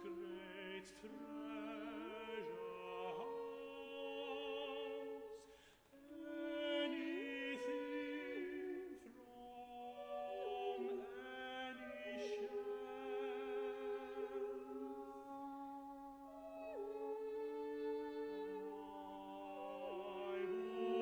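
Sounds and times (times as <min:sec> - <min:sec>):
choir singing classical piece: 0:00.0 - 0:21.0.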